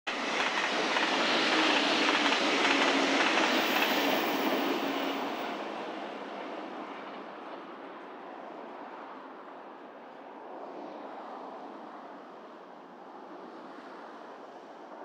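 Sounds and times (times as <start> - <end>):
train passing at speed: 0.1 - 15.0.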